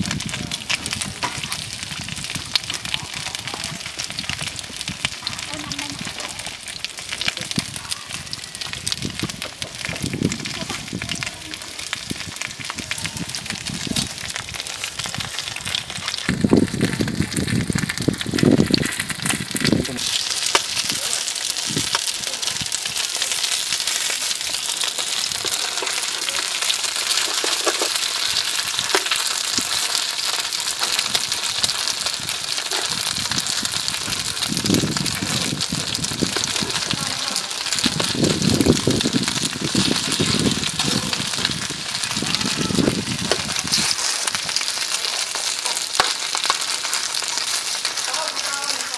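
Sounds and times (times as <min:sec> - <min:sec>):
food sizzling in oil: 0:00.0 - 0:48.9.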